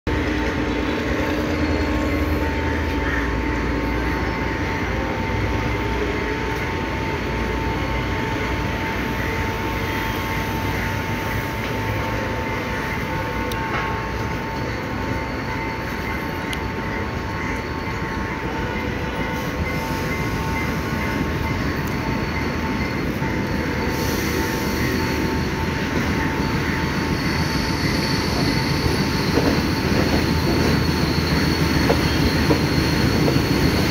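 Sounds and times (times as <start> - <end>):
locomotive engine drone: 0.1 - 33.9.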